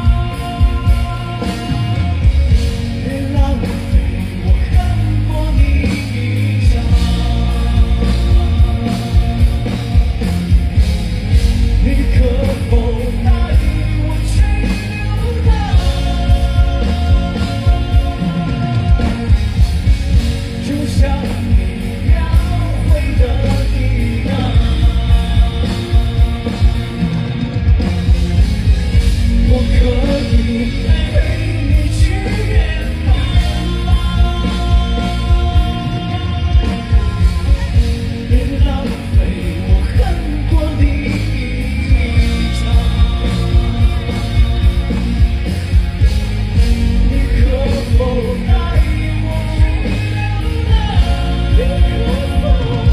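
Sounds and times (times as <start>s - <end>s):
person singing: 0.0s - 11.0s, 11.6s - 27.4s, 28.9s - 52.9s
heavy bass: 0.0s - 52.9s
live pop-rock band: 0.0s - 52.9s
steady drum beat: 0.0s - 52.9s.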